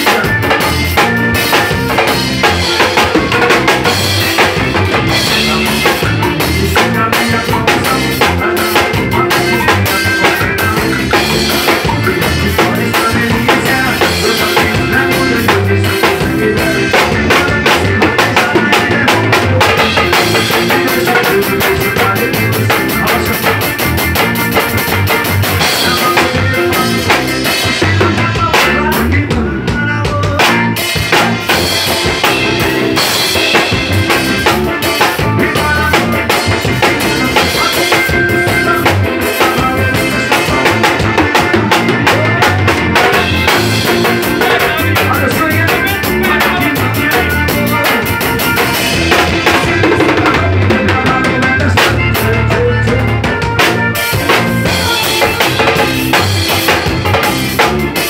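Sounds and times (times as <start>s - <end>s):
drum kit groove: 0.0s - 58.0s.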